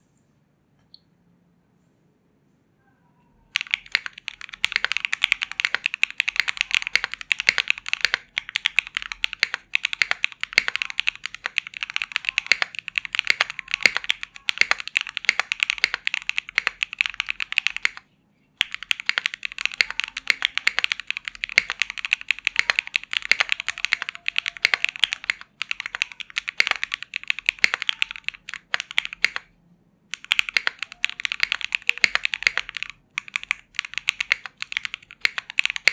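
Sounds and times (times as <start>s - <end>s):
mechanical keyboard typing: 3.5s - 18.0s, 18.6s - 29.5s, 30.1s - 35.9s.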